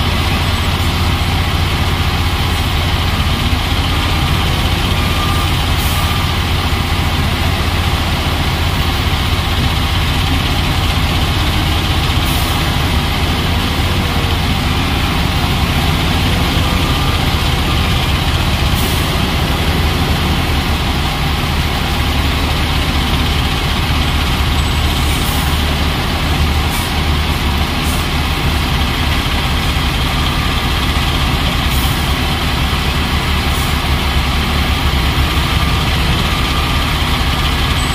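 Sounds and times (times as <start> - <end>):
loader diesel engine under load: 0.0 - 37.9
truck engine idling: 0.0 - 37.9.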